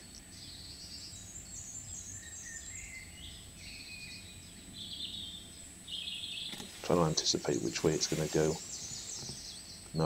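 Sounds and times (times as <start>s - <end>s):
small birds singing: 0.0s - 10.0s.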